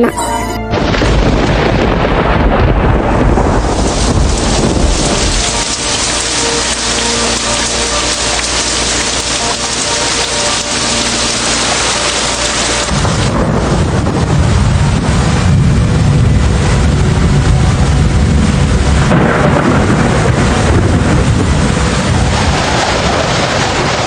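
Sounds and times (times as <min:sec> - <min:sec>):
deep rumble: 0:00.0 - 0:24.0
hail and rain pelting down: 0:00.7 - 0:24.0.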